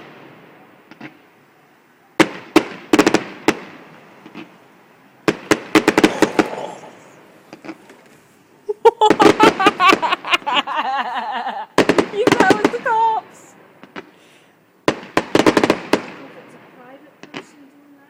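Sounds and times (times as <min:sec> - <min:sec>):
fireworks exploding: 0:00.0 - 0:17.9.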